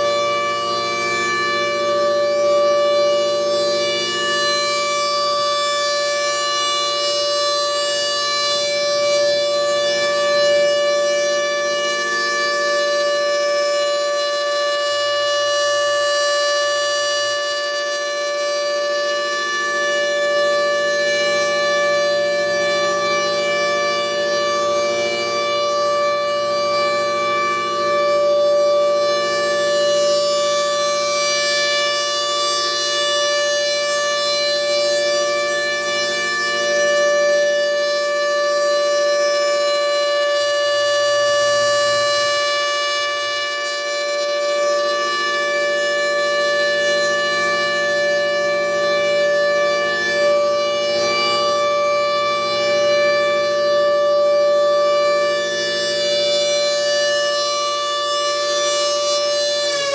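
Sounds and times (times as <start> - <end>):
rotating siren steady tone: 0.0 - 59.9.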